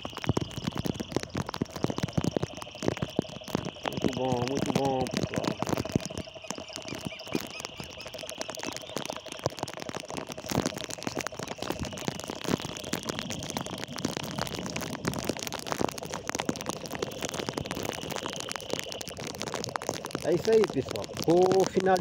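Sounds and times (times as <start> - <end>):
heavy rain patter: 0.0 - 22.0.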